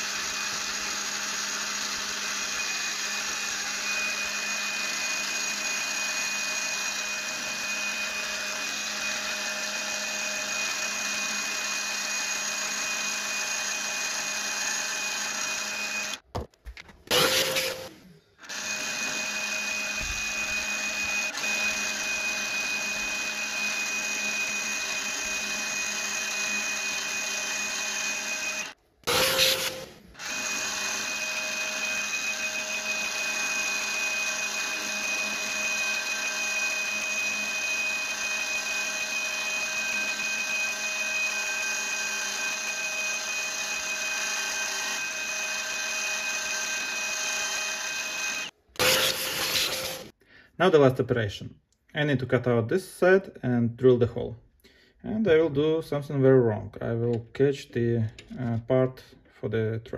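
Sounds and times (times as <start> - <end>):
micro mill cutting metal whine: 0.0 - 16.2, 17.1 - 50.1.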